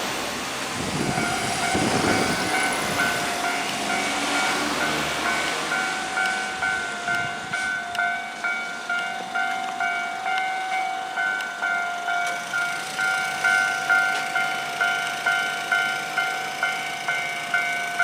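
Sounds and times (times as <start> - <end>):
passing train rumble: 0.0 - 18.0
level crossing two-tone bell: 1.2 - 18.0.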